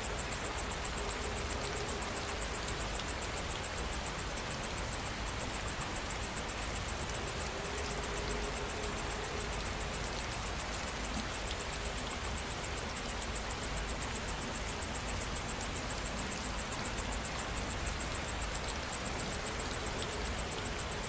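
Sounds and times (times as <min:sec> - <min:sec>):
insect chirping fast: 0:00.0 - 0:21.0
steady rain falling: 0:00.0 - 0:21.0.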